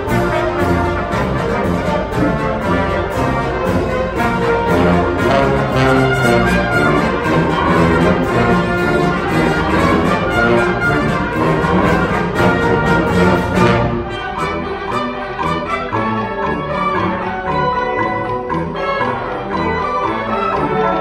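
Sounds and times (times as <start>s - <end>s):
concert band playing: 0.0s - 21.0s.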